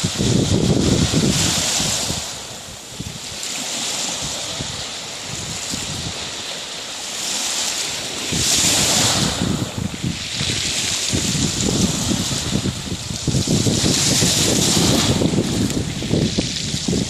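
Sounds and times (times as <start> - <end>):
surf washing onto shore: 0.0 - 17.0
wind rumbling on microphone: 0.0 - 17.0.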